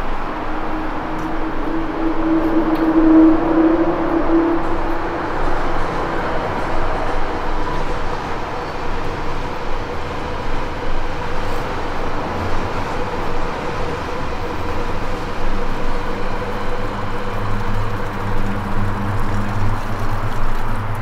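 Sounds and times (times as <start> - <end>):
city road traffic: 0.0 - 21.0.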